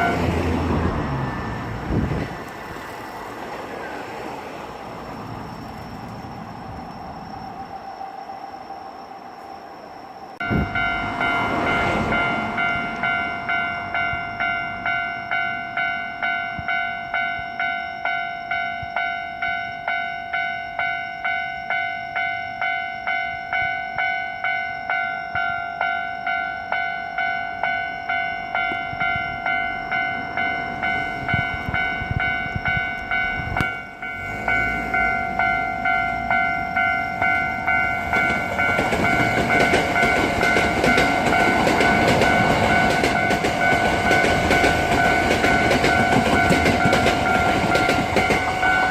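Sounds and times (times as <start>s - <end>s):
level crossing warning bell: 0.0s - 1.9s, 10.4s - 48.9s
train running past on tracks: 0.0s - 48.9s.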